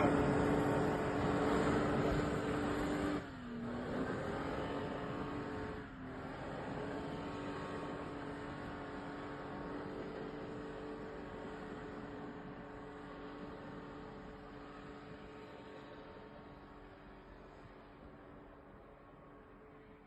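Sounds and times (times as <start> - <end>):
vehicle engine running under load: 0.0 - 20.0.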